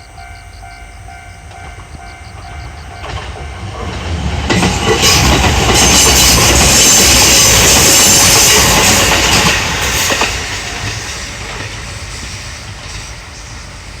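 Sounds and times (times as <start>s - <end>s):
train wheels rumbling over rails: 0.0s - 14.0s.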